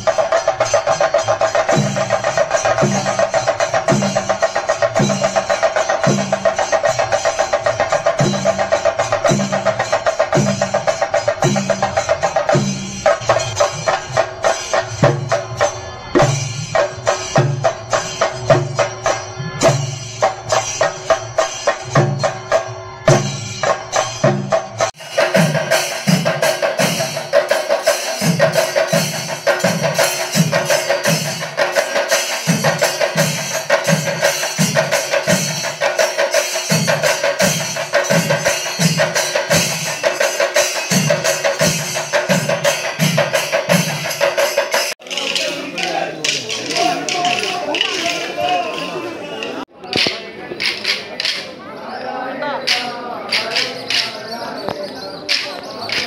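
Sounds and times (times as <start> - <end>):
drum-driven music: 0.0 - 51.6, 52.6 - 56.0.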